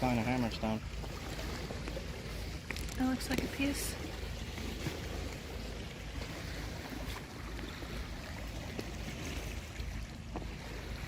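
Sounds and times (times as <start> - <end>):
creek flowing: 0.0 - 11.0.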